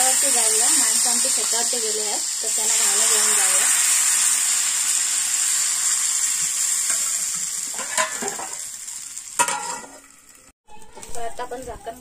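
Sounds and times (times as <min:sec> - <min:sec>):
batter sizzling on pan: 0:00.0 - 0:10.5.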